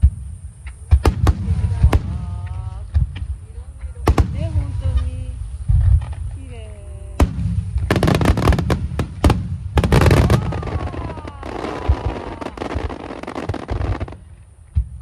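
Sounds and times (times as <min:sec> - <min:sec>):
firework crackle: 0:00.0 - 0:15.0
firework bangs: 0:00.8 - 0:03.4, 0:04.0 - 0:06.4, 0:07.1 - 0:15.0.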